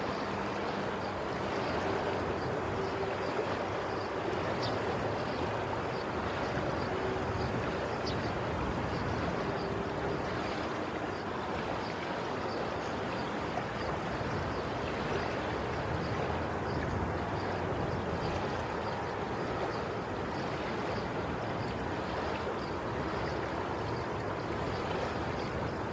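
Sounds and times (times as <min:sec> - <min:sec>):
sea waves washing on shore: 0:00.0 - 0:25.9.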